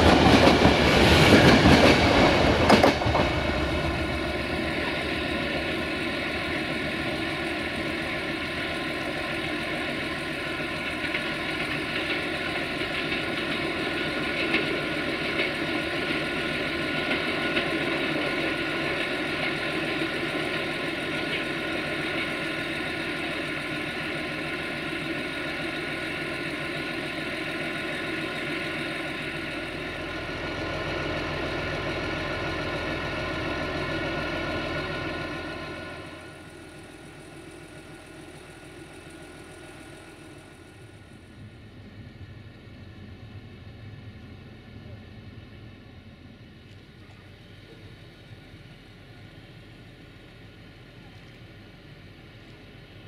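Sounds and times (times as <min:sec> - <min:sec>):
diesel train engine running: 0:00.0 - 0:53.0
train rumble: 0:00.0 - 0:53.0.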